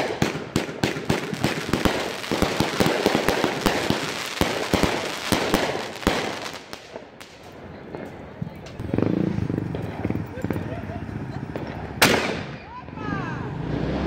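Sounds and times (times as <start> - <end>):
fireworks crackling: 0.0 - 12.7
fireworks bangs: 0.0 - 12.9.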